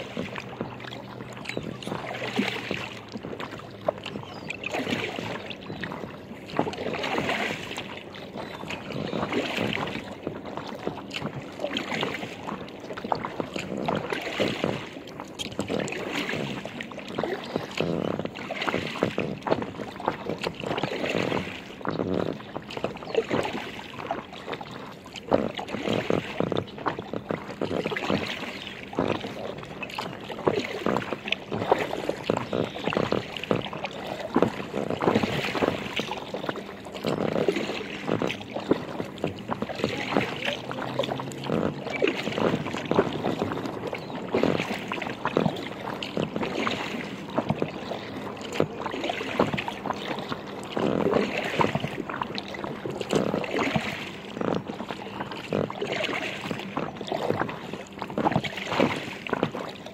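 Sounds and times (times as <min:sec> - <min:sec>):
paddle strokes: 0:00.0 - 0:59.9
water splashing against kayak hull: 0:00.0 - 0:59.9.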